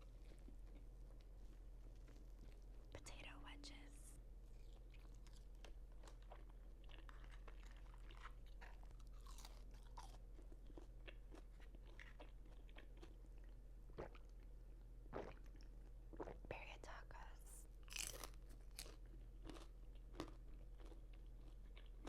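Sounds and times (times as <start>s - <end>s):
chewing crunchy food: 0.0s - 3.2s, 4.4s - 14.5s, 15.1s - 16.4s, 17.8s - 22.0s.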